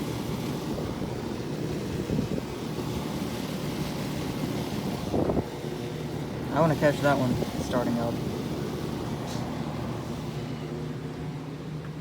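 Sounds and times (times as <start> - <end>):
air conditioner units humming: 0.0 - 12.0.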